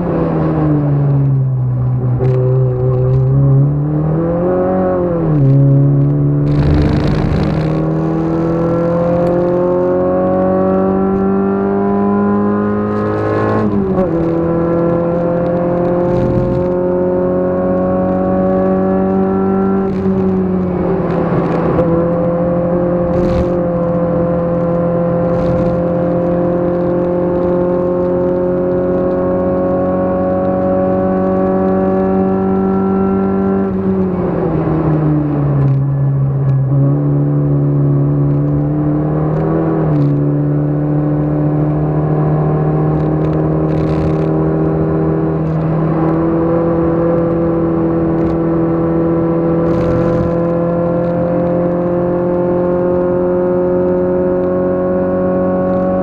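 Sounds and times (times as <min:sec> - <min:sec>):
race car engine accelerating: 0:02.0 - 0:56.0.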